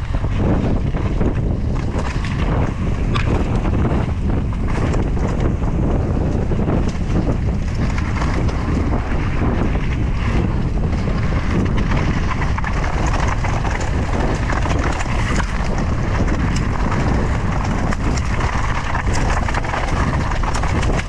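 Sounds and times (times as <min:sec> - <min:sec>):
bike rattling and clicking: 0:00.0 - 0:21.0
tyres rumbling on dirt: 0:00.0 - 0:21.0
wind buffeting microphone: 0:00.0 - 0:21.0.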